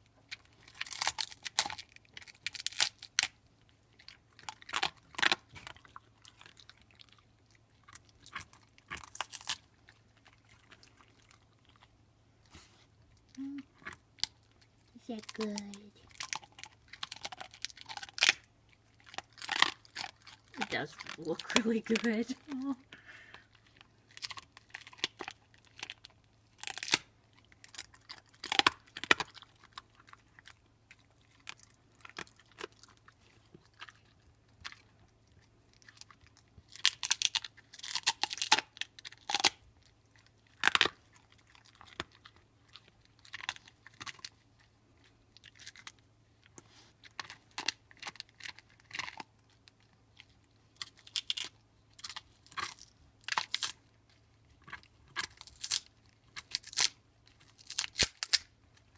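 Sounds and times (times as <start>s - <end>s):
dog crunching on bone: 0.0s - 58.9s.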